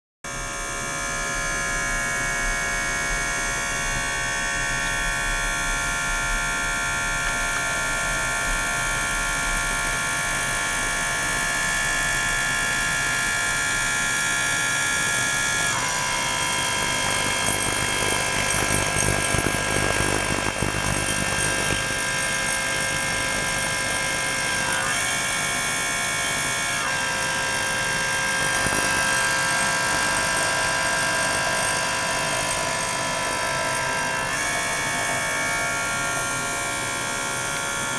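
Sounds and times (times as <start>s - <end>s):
electric pump buzzing: 0.3s - 37.9s.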